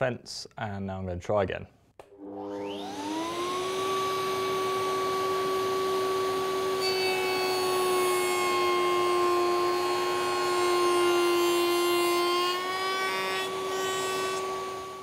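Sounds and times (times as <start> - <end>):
router whining cutting wood: 2.0 - 15.0.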